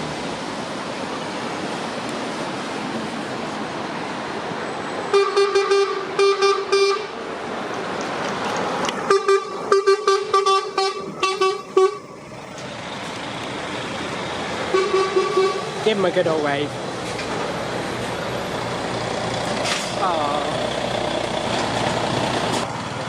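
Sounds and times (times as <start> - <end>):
traffic hiss: 0.0 - 23.0
wind: 0.0 - 23.0.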